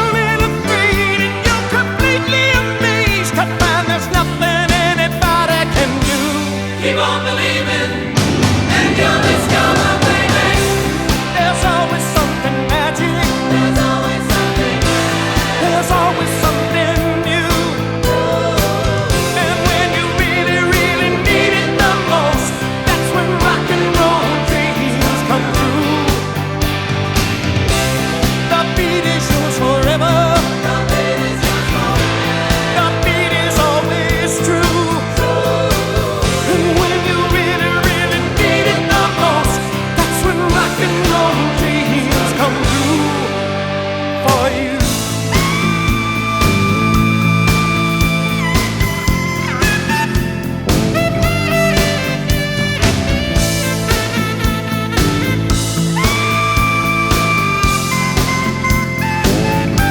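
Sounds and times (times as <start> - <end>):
instrumental rock music: 0.0 - 59.9.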